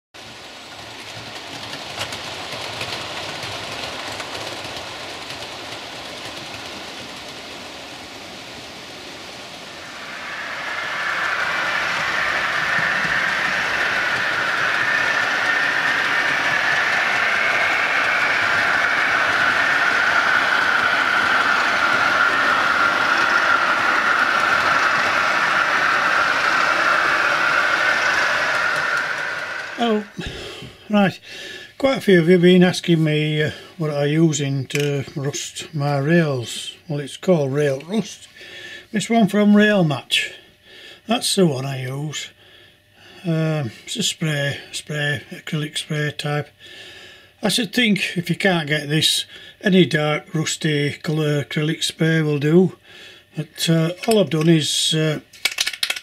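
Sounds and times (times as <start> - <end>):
model train running noise: 0.2 - 56.0
steady whine: 2.6 - 40.5, 47.4 - 56.0.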